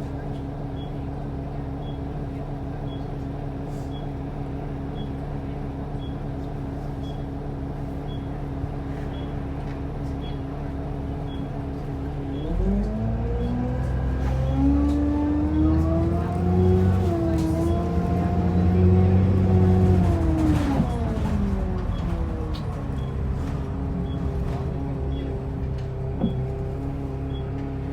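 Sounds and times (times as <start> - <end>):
bus engine idling: 0.0 - 27.9.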